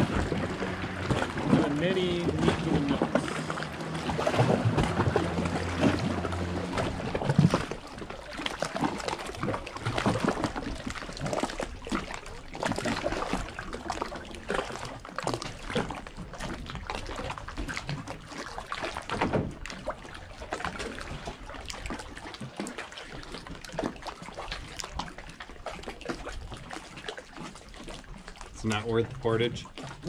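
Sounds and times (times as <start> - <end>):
paddle dipping into water: 0.0 - 30.0.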